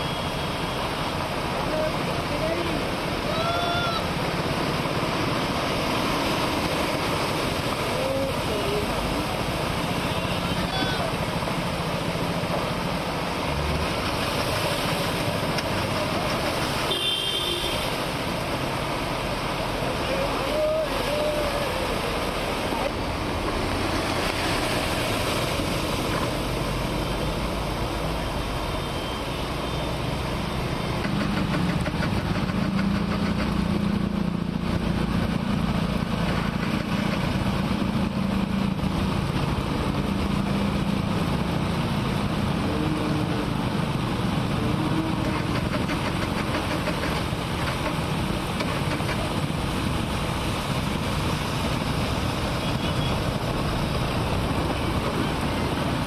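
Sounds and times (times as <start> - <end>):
heavy rain falling: 0.0 - 56.0
vehicles driving through floodwater: 0.0 - 56.0.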